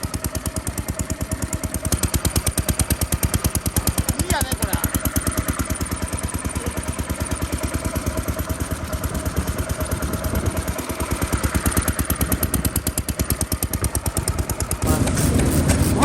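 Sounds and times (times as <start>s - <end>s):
stationary farm engine running: 0.0s - 16.0s.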